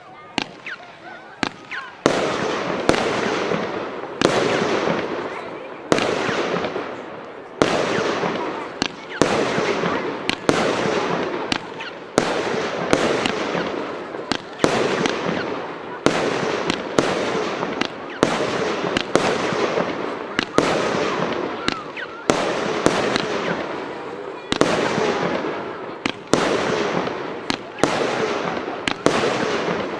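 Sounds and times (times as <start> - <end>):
firework bangs: 0.3 - 29.9.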